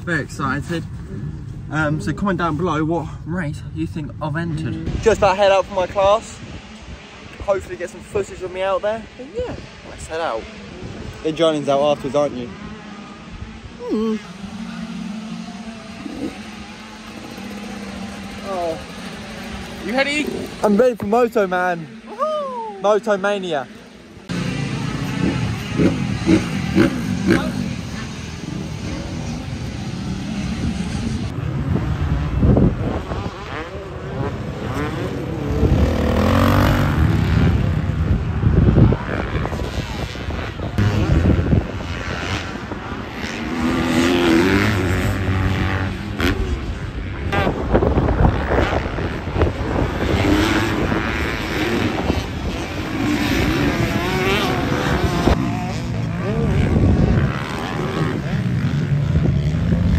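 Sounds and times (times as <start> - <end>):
motocross bike engines revving: 0.0 - 22.2, 22.8 - 59.9.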